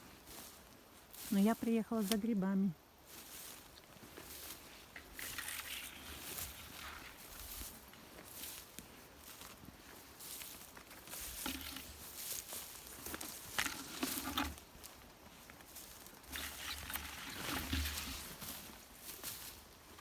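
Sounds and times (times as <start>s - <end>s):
footsteps through dry undergrowth: 0.0s - 20.0s.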